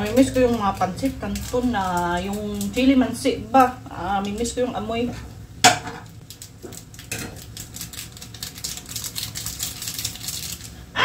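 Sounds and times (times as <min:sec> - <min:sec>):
pot boiling with bubbling: 0:00.0 - 0:11.0.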